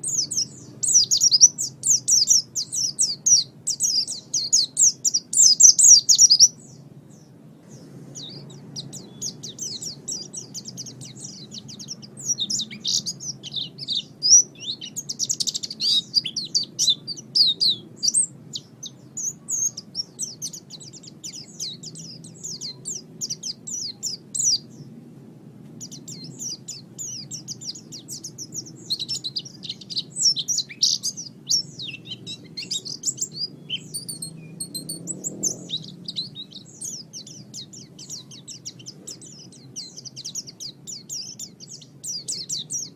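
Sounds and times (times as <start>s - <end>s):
bird twittering song: 0.0s - 25.0s, 25.6s - 42.9s.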